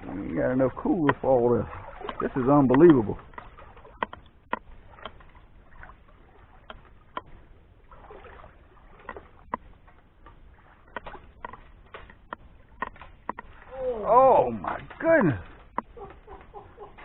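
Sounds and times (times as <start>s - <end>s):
person wading through water: 0.0s - 17.0s.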